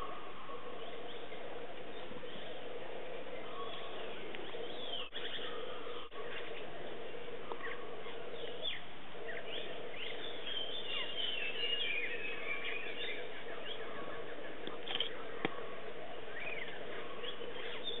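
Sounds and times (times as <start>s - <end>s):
birds chirping: 0.0s - 18.0s
steady hum: 0.0s - 18.0s.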